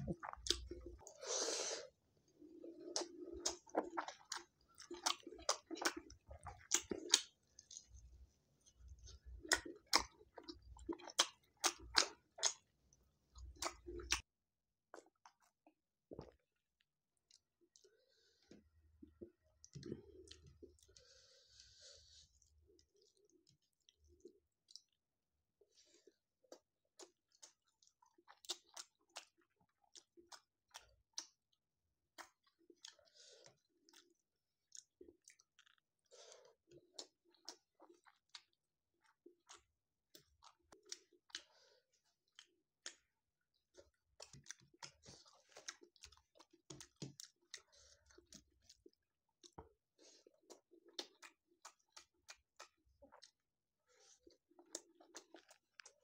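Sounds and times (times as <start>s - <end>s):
person chewing food: 0.0s - 14.3s, 14.9s - 25.0s, 25.6s - 56.0s.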